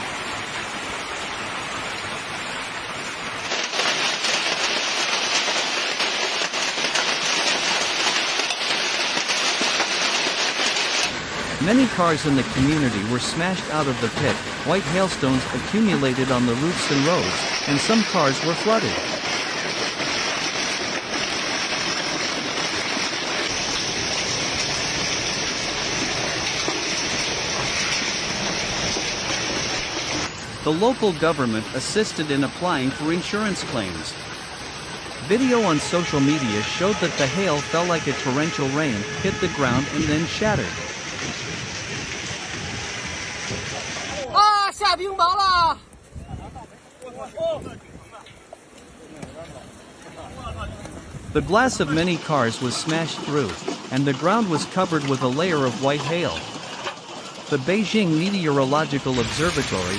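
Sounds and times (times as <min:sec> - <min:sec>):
heavy rain: 0:00.0 - 0:59.9
hailstones striking: 0:03.4 - 0:44.3, 0:48.0 - 0:59.9.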